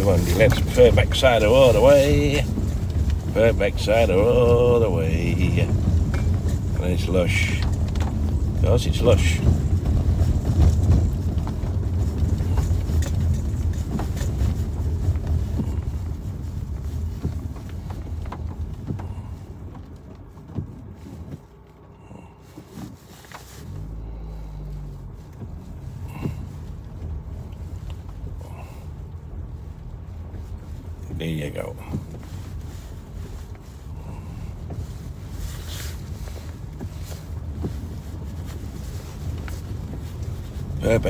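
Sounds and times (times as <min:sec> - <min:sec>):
low engine hum: 0:00.0 - 0:41.0
tyres and engine rumbling: 0:00.0 - 0:41.0.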